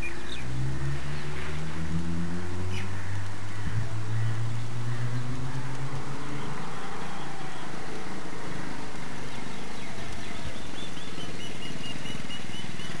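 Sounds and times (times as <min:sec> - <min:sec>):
small motorbike engine passing: 0:00.0 - 0:13.0.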